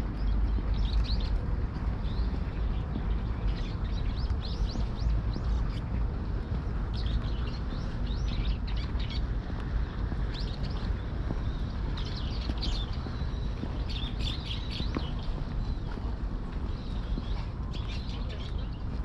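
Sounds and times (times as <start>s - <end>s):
low rumble of city noise: 0.0s - 19.0s
small birds chirping: 0.0s - 19.0s.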